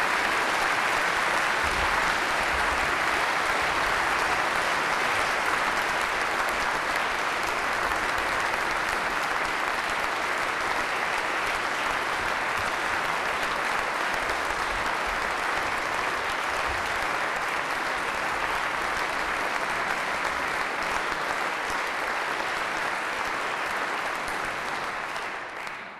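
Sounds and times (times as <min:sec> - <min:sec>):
large audience applauding: 0:00.0 - 0:25.9.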